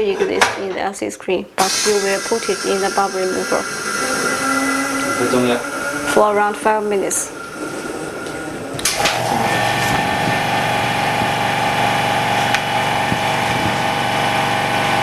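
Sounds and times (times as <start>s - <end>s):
machine humming: 1.6s - 15.0s.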